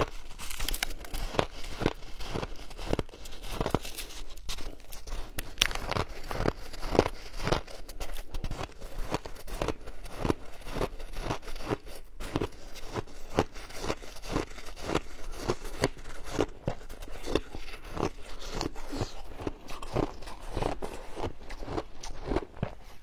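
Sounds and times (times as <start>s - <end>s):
crunching shaved ice: 0.0s - 23.0s.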